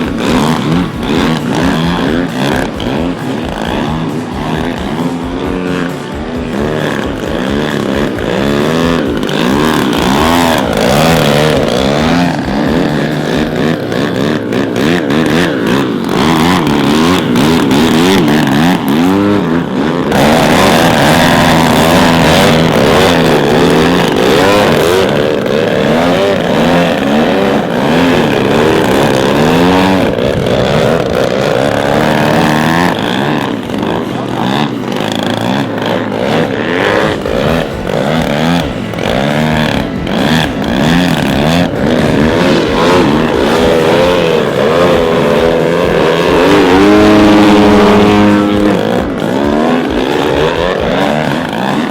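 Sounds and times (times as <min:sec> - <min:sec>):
model plane engine and propeller: 0:00.0 - 0:51.9.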